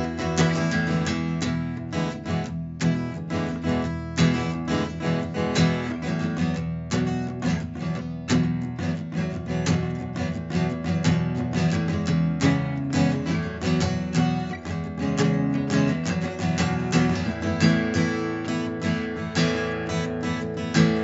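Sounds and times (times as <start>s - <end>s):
acoustic guitar strummed and picked: 0.0s - 21.0s.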